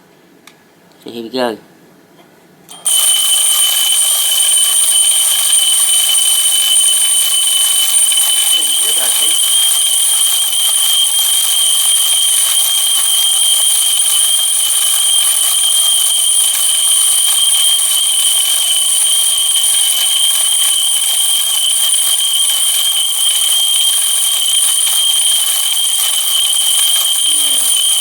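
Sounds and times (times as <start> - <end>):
toy ride bell ringing: 2.7 - 28.0.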